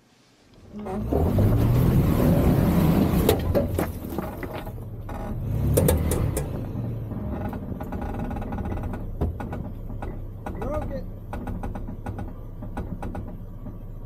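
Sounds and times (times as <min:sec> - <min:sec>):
truck engine under load: 0:00.6 - 0:14.0
tires knocking on rock: 0:01.0 - 0:06.4, 0:07.2 - 0:14.0.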